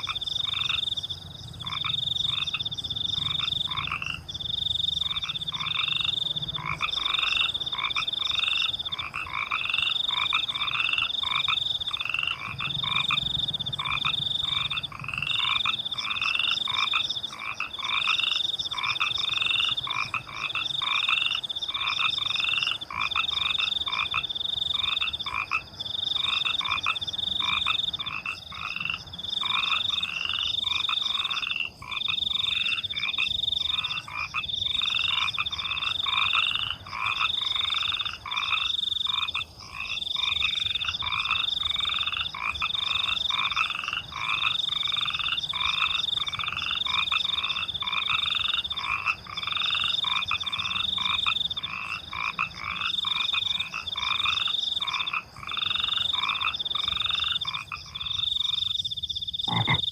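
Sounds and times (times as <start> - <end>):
crickets chirping: 0.0 - 59.9
frogs croaking: 0.0 - 59.9.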